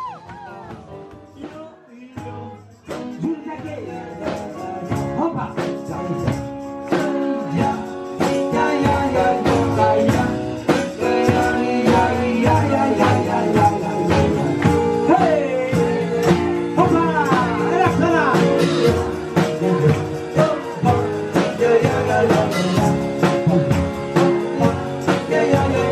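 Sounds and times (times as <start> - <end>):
person singing: 0.0 - 25.9
tambourine: 0.0 - 25.9.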